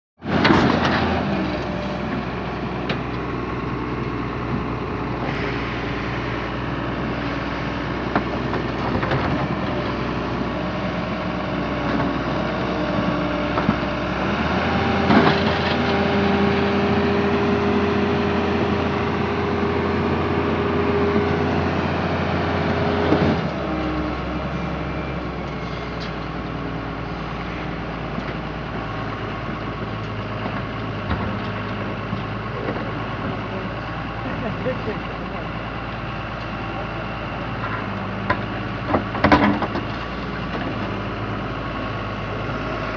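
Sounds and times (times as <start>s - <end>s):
heavy diesel engine running: 0.2s - 42.9s.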